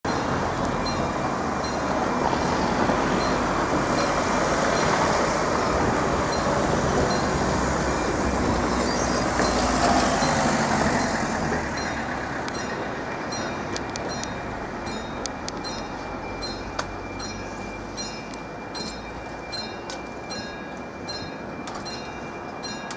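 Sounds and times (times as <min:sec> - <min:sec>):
mechanical alarm bells ringing: 0:00.1 - 0:05.2, 0:06.2 - 0:22.9
loud steady rumble: 0:00.1 - 0:22.9.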